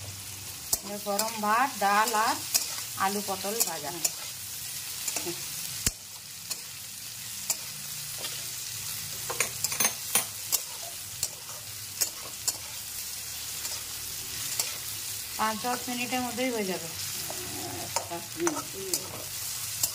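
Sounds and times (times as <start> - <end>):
vegetables sizzling in oil: 0.0 - 19.9.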